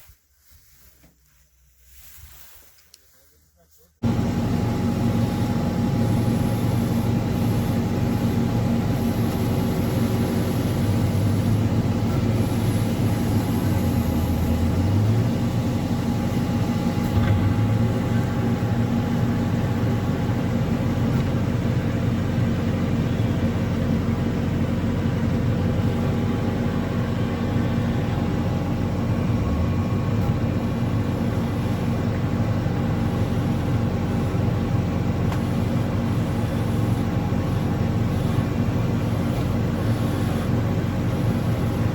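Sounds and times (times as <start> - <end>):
diesel engine of earthmoving machine: 4.0 - 41.9.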